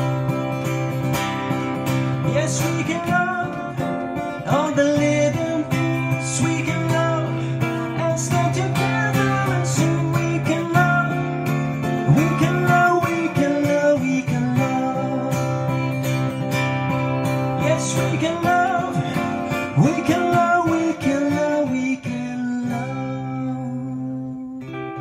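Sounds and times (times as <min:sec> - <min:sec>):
acoustic guitar strumming: 0:00.0 - 0:25.0
person singing without words: 0:02.2 - 0:16.0, 0:17.5 - 0:25.0.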